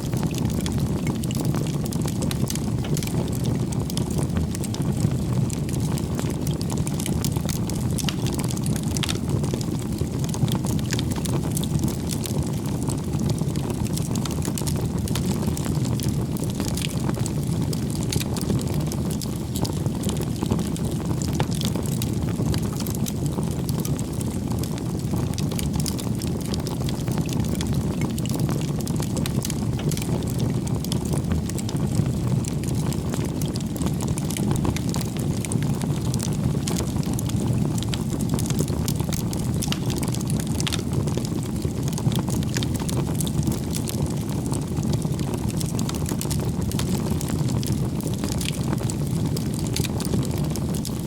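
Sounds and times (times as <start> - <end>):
firewood crackling and popping: 0.0 - 51.0
rumble of flames: 0.0 - 51.0.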